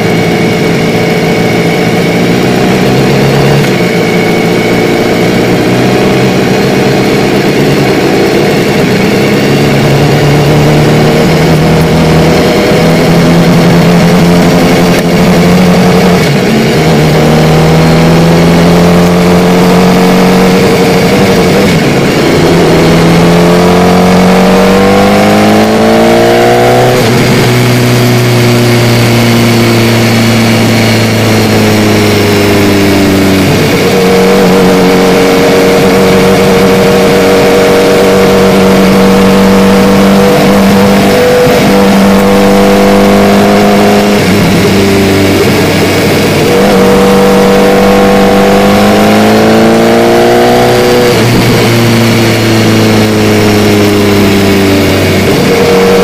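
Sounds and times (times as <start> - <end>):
motorcycle engine revving: 0.0 - 56.0
road noise: 0.0 - 56.0.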